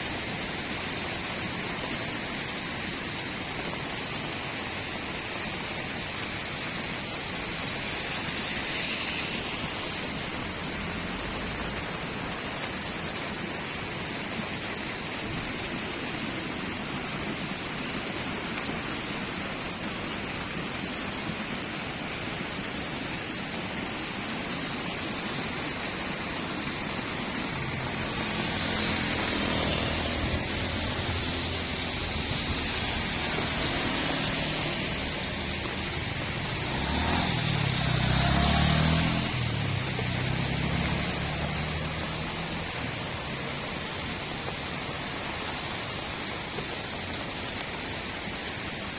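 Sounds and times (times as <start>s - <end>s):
rain falling on a street: 0.0s - 48.9s
vehicle on a wet road: 0.0s - 48.9s.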